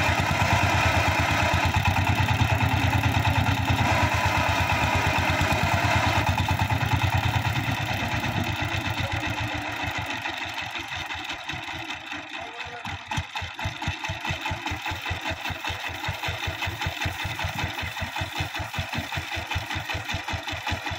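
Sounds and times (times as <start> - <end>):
diesel engine chugging: 0.0 - 20.9.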